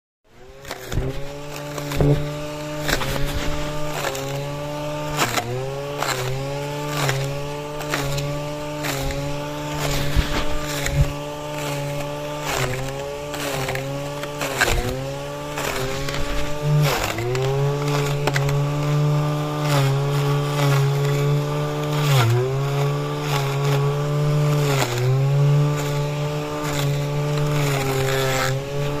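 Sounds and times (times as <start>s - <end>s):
brush cutter engine running: 0.3s - 29.0s.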